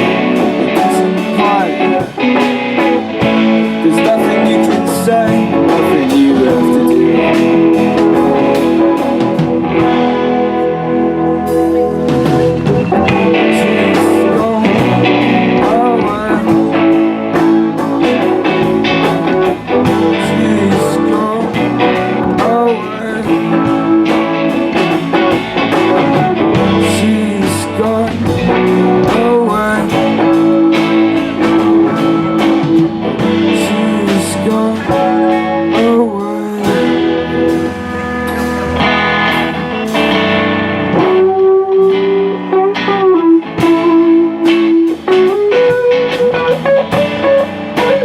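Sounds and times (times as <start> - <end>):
guitar lead with bent notes: 0.0 - 48.0
live band playing: 0.0 - 48.0.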